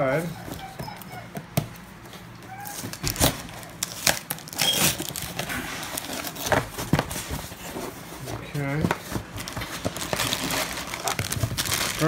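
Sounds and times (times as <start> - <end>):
cardboard rustling and scraping: 2.0 - 12.0.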